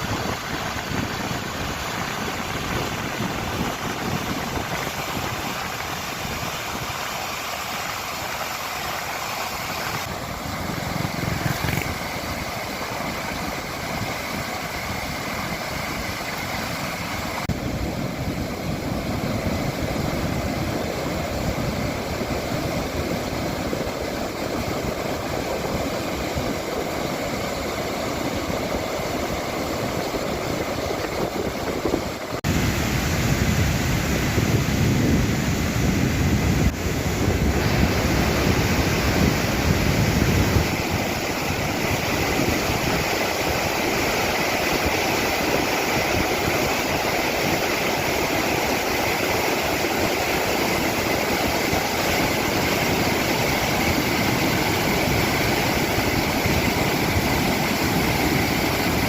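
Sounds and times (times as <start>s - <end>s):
water pouring over spillway: 0.0s - 35.7s, 36.7s - 59.0s.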